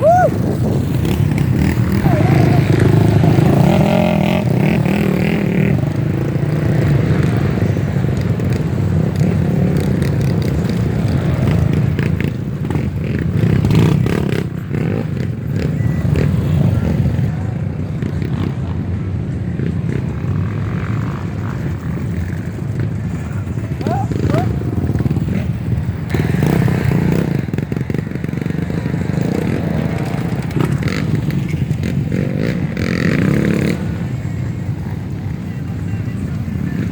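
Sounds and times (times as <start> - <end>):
motorcycle engines running: 0.0 - 36.9.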